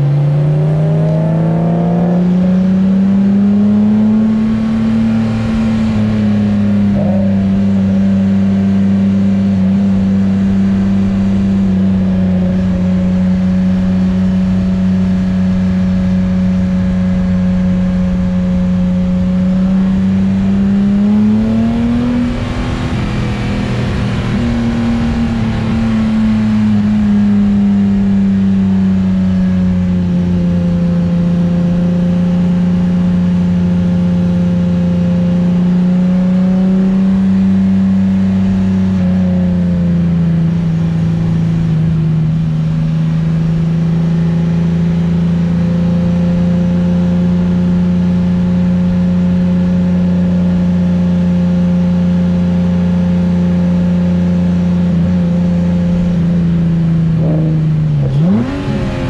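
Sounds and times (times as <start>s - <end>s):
car engine cruising: 0.0s - 59.0s.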